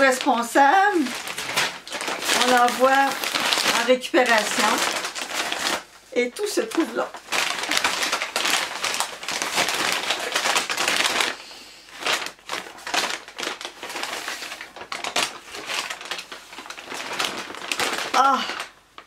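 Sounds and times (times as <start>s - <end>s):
paper bag crinkling and tearing: 0.0s - 19.0s.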